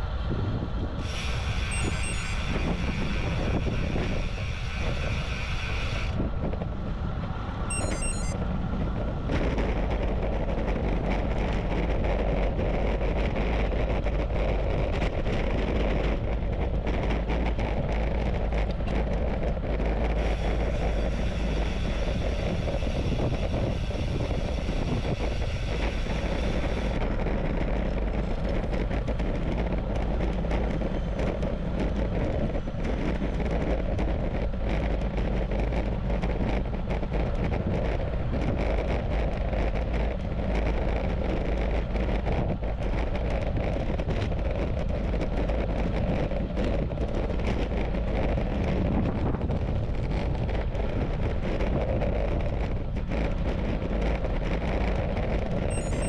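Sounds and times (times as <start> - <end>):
road noise: 0.0 - 56.0
wind buffeting microphone: 0.0 - 56.0.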